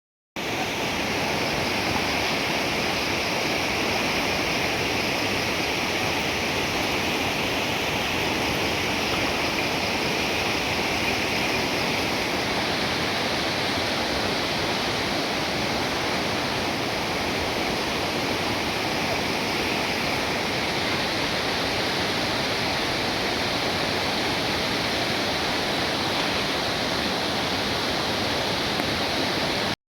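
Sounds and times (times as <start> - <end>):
river water rushing: 0.4 - 29.8.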